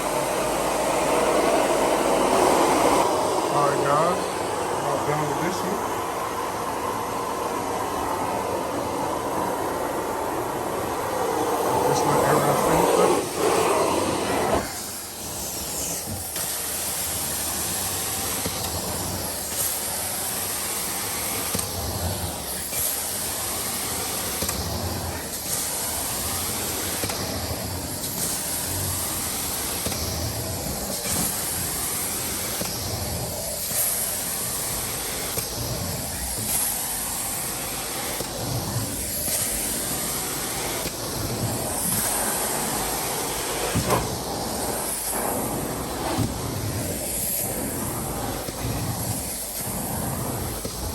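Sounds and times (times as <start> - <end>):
carpet extraction suction hissing: 0.0 - 50.9.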